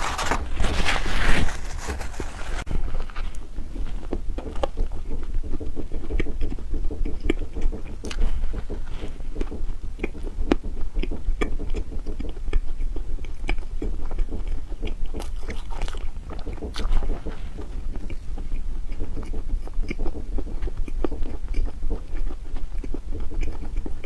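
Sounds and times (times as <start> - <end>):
steady low hum: 0.0 - 24.0
chewing with wet mouth clicks: 3.2 - 24.0.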